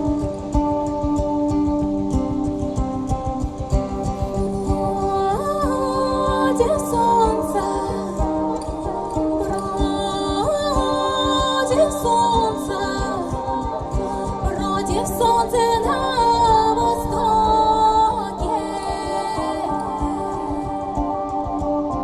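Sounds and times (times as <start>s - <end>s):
musical accompaniment: 0.0s - 22.0s
people singing: 4.2s - 22.0s.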